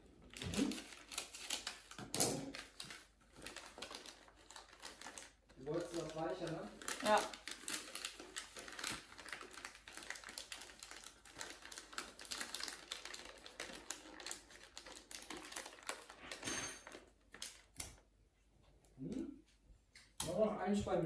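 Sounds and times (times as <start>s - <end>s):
wrapping paper rustling: 0.0s - 18.1s.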